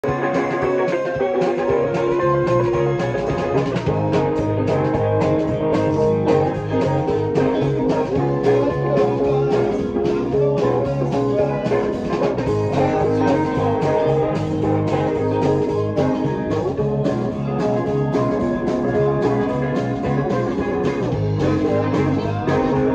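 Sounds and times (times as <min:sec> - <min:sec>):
drum and cymbal hits: 0:00.0 - 0:22.9
electric bass plucked: 0:00.0 - 0:22.9
rock band playing: 0:00.0 - 0:22.9.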